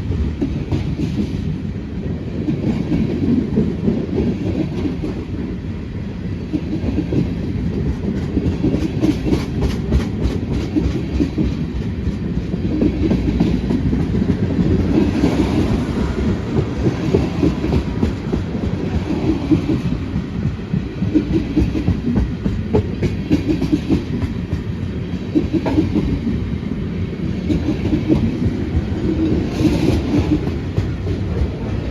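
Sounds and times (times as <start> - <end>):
railroad cars rumbling past: 0.0 - 31.9.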